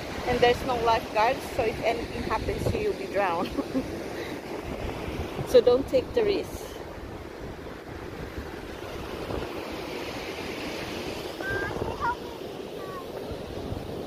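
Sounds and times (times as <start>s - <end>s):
surf washing on beach: 0.0s - 14.0s
wind rumbling on microphone: 0.0s - 14.0s.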